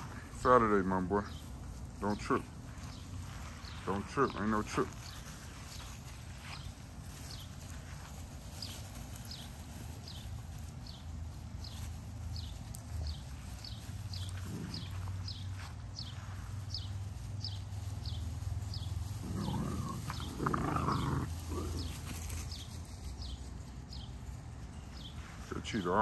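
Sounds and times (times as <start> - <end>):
puppies growling and scuffling: 0.0 - 25.8.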